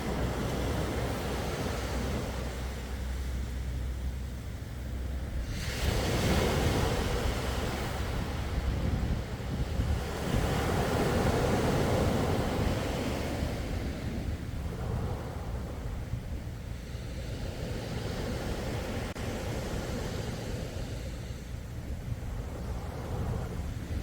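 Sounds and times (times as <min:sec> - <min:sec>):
sea waves breaking: 0:00.0 - 0:24.0
steady low rumble: 0:00.0 - 0:24.0.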